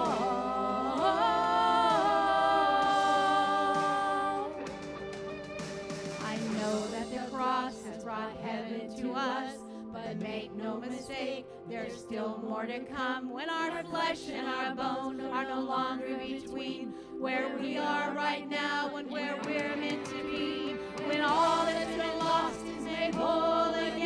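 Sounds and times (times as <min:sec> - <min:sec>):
choir singing a worship song: 0:00.0 - 0:04.9, 0:06.2 - 0:24.0
sustained backing music: 0:00.0 - 0:24.0.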